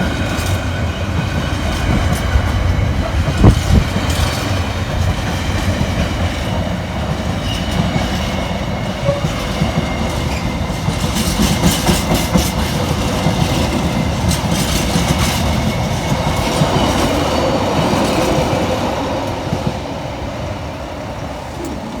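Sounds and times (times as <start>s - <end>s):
train wheels clattering over rail joints: 0.0s - 19.8s.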